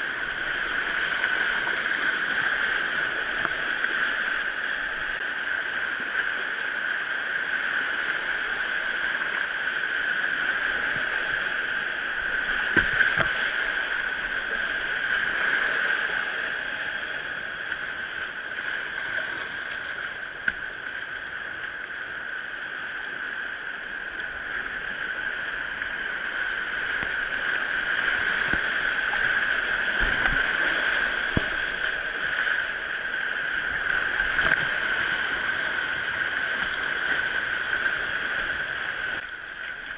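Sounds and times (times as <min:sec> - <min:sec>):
stream rushing over rapids: 0:00.0 - 0:39.9.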